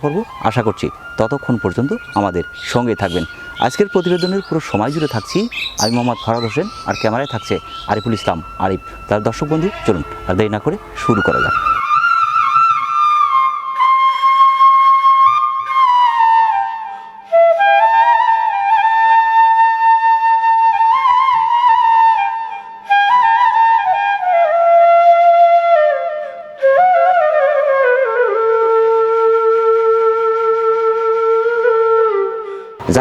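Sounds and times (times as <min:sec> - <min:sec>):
solo flute slow melody: 0:00.0 - 0:33.0.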